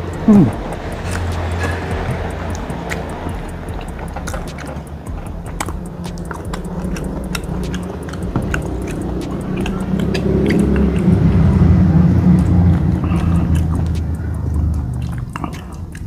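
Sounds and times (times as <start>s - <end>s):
hand mixing food wet squelches: 0.0s - 16.0s
steady low hum: 0.0s - 16.0s.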